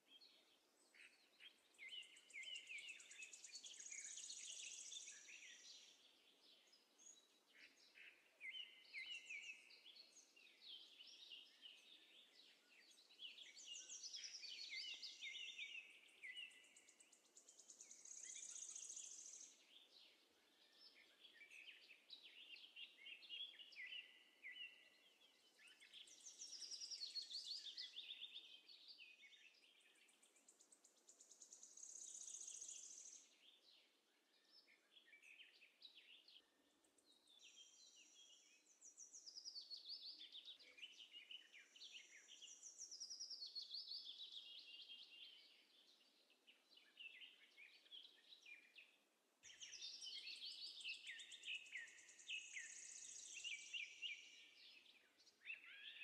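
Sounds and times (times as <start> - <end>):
faint birdsong: 0.0 - 56.0.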